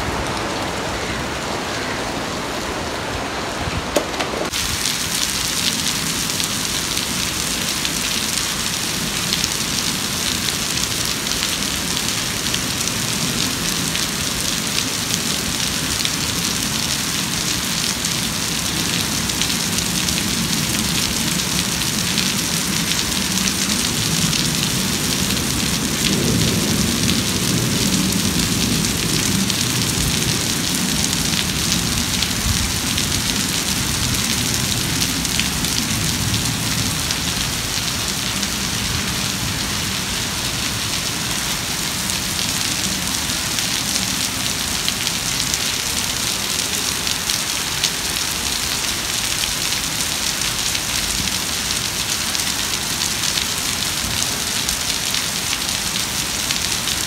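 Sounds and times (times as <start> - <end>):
rain on concrete and grass: 0.0 - 57.0.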